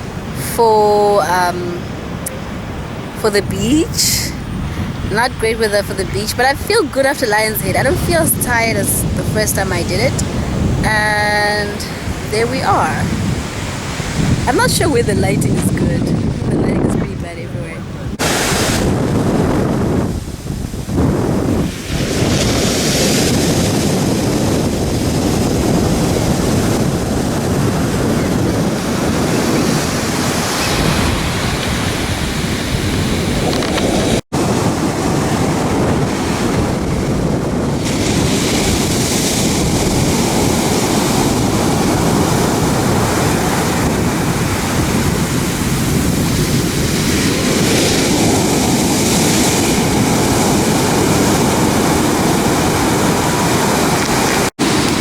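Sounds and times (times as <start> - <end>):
ocean surf washing onto beach: 0.0 - 55.0
wind blowing over microphone: 0.0 - 55.0.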